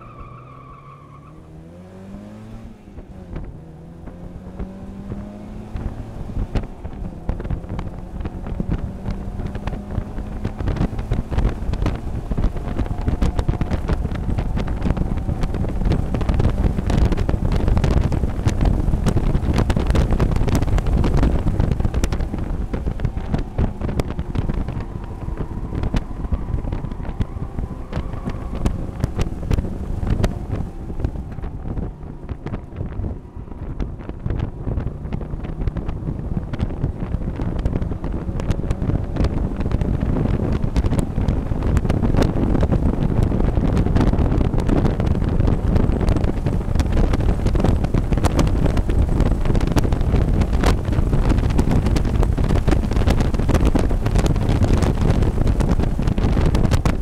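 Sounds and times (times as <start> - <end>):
race car engine under throttle: 0.0 - 57.0
wind buffeting on microphone: 0.0 - 57.0.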